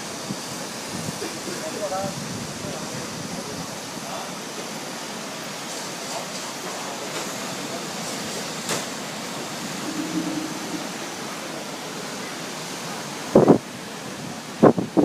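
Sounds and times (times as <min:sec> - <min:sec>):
sea surf: 0:00.0 - 0:14.6
wind: 0:00.0 - 0:15.0.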